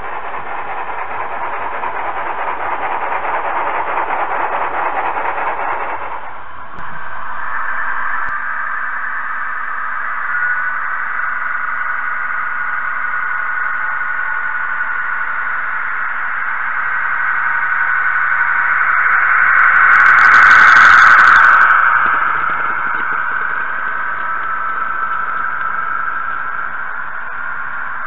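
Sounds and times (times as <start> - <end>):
model train whirring on track: 0.0 - 28.0.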